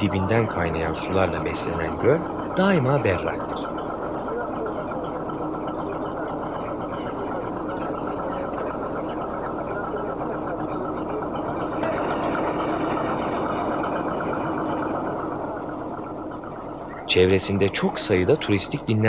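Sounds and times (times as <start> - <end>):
motor boat engine droning: 0.0 - 19.0.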